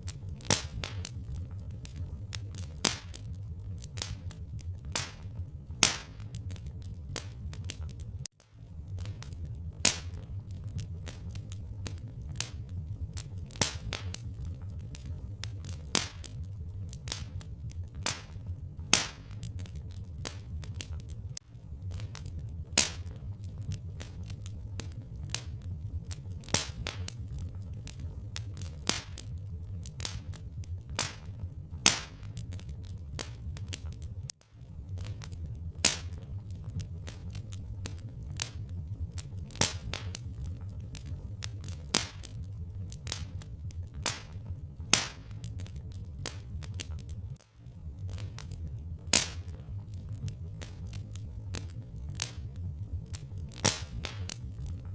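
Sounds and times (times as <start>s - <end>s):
fire popping: 0.0s - 54.9s
low rumble: 0.0s - 54.9s
wood fire crackling: 0.0s - 54.9s.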